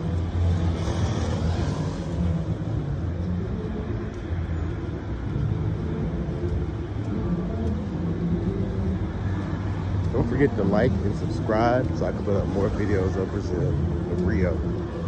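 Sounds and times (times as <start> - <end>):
low rumble of cars: 0.0 - 15.0.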